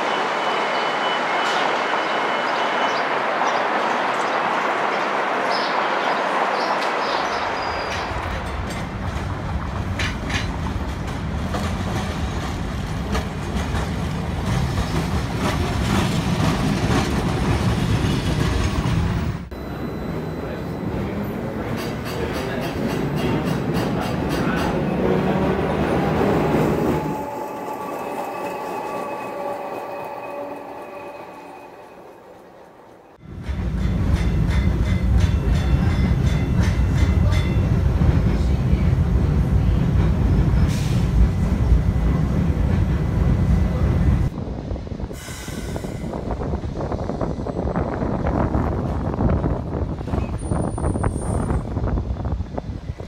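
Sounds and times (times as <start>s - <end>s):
street traffic: 0.0s - 53.0s
streetcar running on rails: 0.0s - 53.0s.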